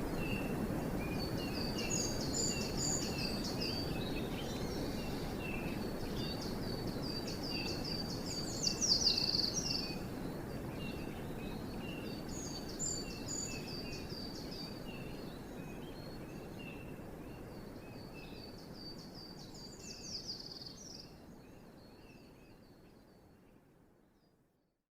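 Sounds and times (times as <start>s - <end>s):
steady background hiss: 0.0s - 24.6s
high thin bird song: 0.1s - 23.6s.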